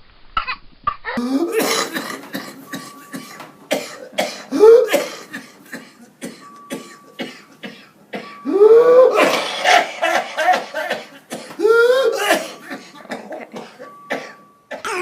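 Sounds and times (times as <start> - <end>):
child coughing: 1.2 - 8.4, 9.1 - 15.0.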